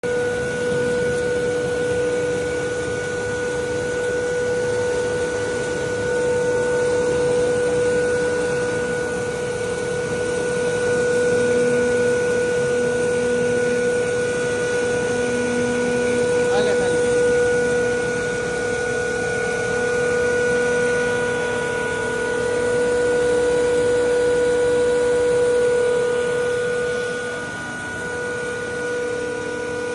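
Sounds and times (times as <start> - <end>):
dense mechanical noise: 0.0 - 29.9
machinery motor whine: 0.0 - 29.9.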